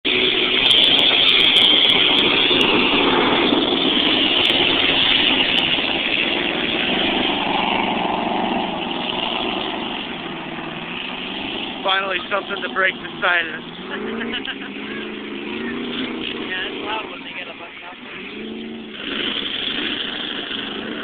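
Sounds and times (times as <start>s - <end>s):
powerboat engines droning: 0.1s - 21.0s.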